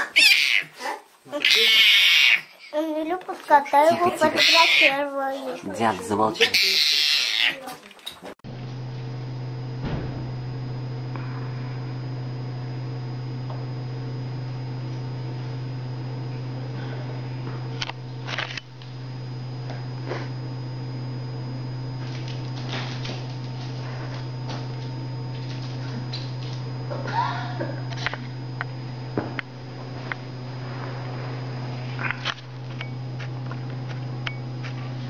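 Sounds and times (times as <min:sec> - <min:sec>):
low mechanical hum with whine: 0:00.0 - 0:35.0.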